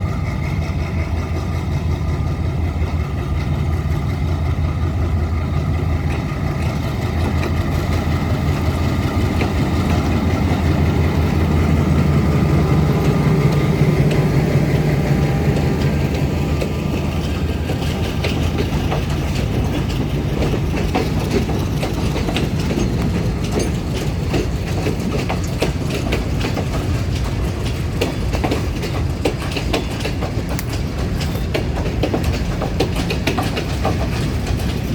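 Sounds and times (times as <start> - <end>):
locomotive diesel engine droning: 0.0 - 34.9
wheels clacking over rail joints: 0.0 - 34.9.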